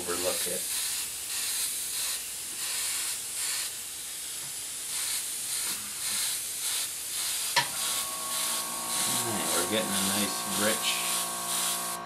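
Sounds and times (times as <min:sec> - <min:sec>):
airbrush hissing: 0:00.0 - 0:12.0.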